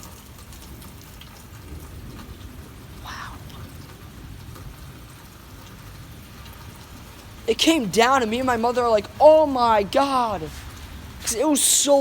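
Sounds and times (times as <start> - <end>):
steady rain patter: 0.0 - 12.0.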